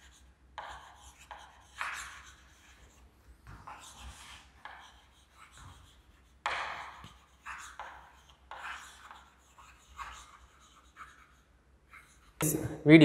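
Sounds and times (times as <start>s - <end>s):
chalk writing on blackboard: 0.0s - 12.6s.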